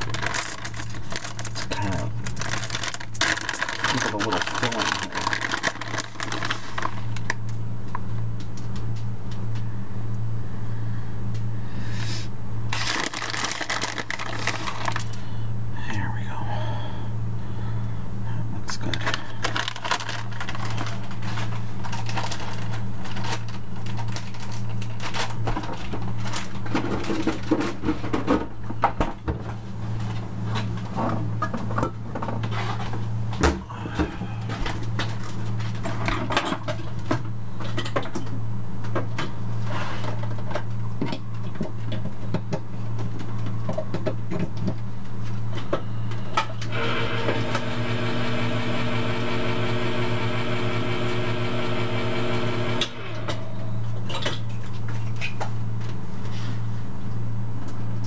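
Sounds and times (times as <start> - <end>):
low electrical hum: 0.0 - 58.0
machine hum with even tones: 0.0 - 58.0.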